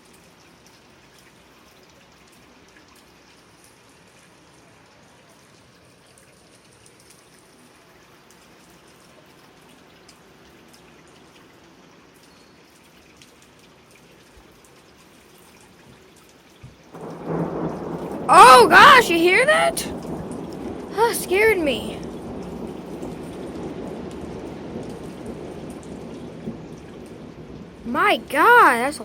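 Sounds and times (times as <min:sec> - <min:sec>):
light rain falling: 0:00.0 - 0:29.0
raindrop drips and ticks: 0:00.0 - 0:29.0.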